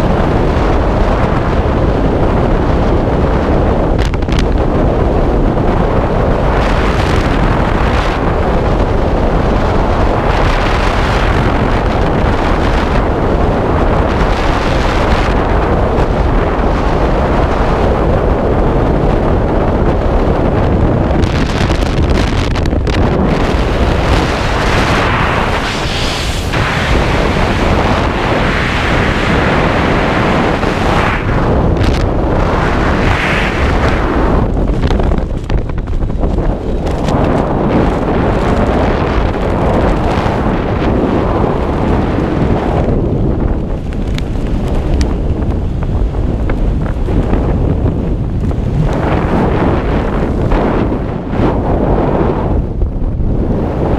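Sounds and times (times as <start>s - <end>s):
wind rushing past microphone: 0.0s - 53.9s.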